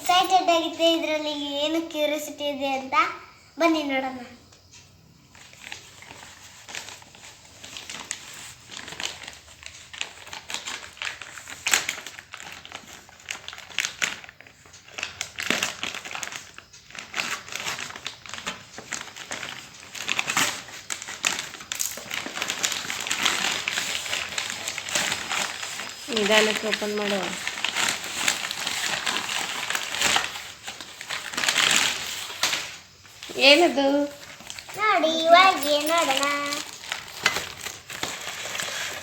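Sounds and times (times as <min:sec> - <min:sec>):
packaging crinkling and rustling: 0:05.3 - 0:39.0.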